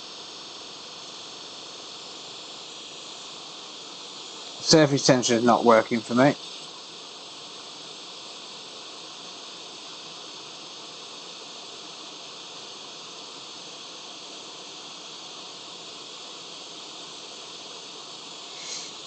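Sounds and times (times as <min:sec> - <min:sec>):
hot-air station hissing: 0:00.0 - 0:19.0.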